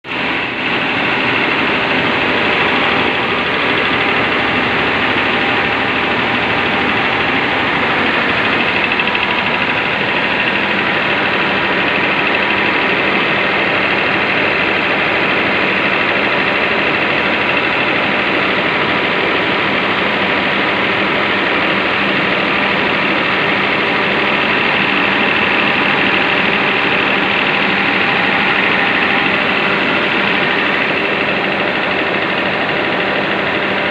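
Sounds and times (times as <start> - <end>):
diesel engine running steadily: 0.0 - 33.9.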